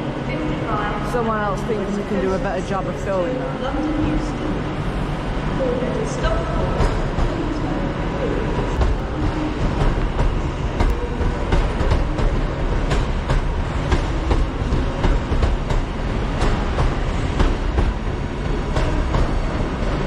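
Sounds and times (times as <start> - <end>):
electric train rumbling past: 0.0 - 20.0.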